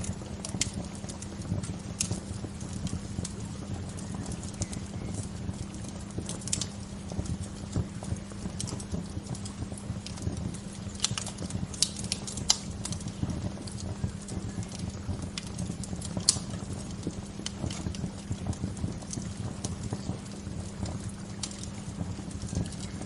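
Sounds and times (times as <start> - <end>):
low rumble of burning: 0.0 - 23.0
wood fire crackling and popping: 0.0 - 23.0.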